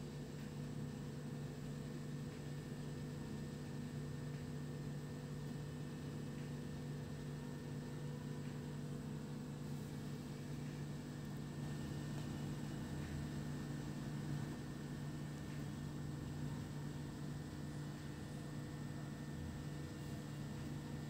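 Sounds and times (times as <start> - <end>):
appliance hum: 0.0 - 21.0.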